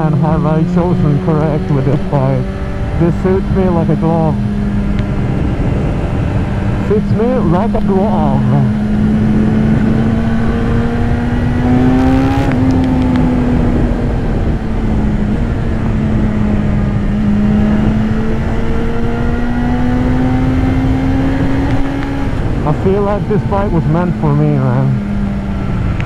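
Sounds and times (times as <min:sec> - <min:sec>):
motorcycle engine cruising: 0:00.0 - 0:26.0
wind rumbling on microphone: 0:00.0 - 0:26.0.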